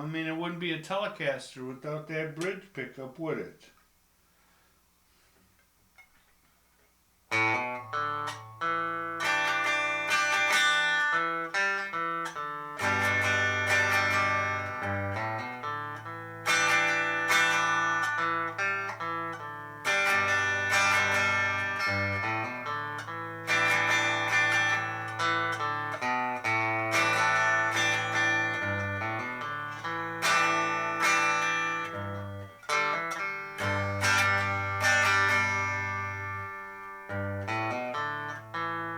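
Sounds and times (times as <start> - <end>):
clean electric guitar melody: 7.3 - 38.9.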